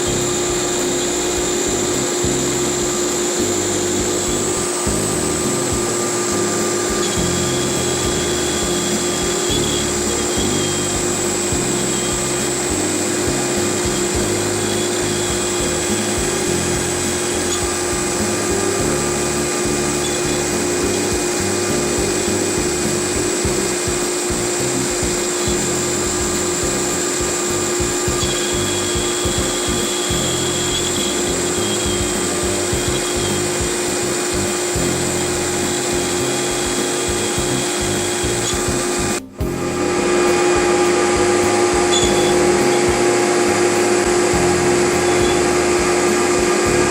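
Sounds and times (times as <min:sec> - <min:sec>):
router spindle carving wood: 0:00.0 - 0:46.9.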